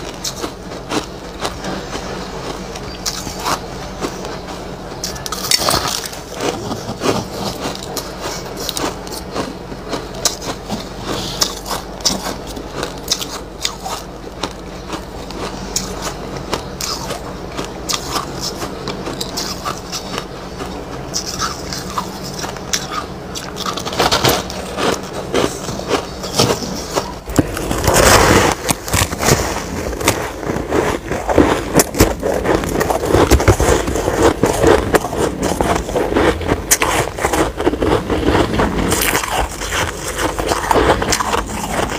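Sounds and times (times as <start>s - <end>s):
snow ice crunching being chewed: 0.0s - 41.9s.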